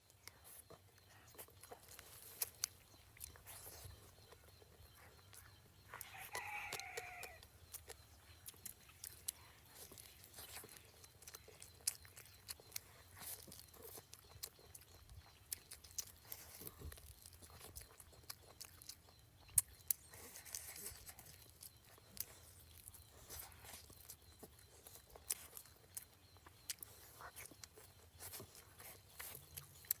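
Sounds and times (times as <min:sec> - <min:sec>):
food being chewed: 0:00.0 - 0:30.0.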